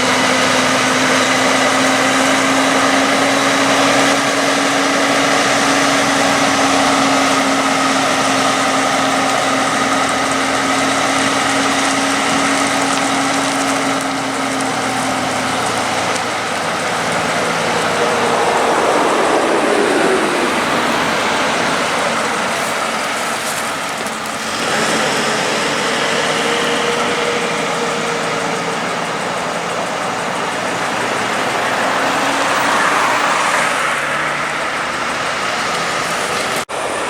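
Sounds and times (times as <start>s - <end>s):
diesel truck engines droning: 0.0s - 37.0s
road and wind noise: 0.0s - 37.0s.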